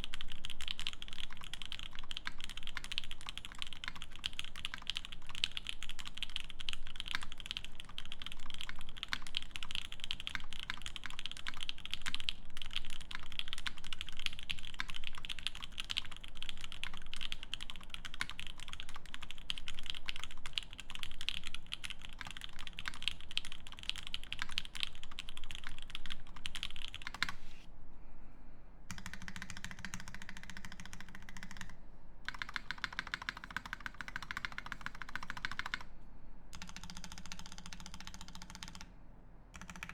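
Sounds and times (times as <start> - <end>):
fast typing on mechanical keyboard: 0.0 - 27.4, 28.9 - 35.9, 36.5 - 38.9, 39.5 - 39.9.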